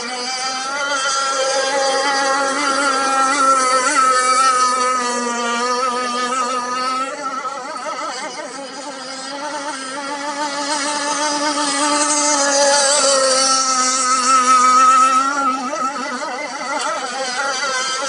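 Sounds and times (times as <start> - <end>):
small motor whining: 0.0 - 18.0.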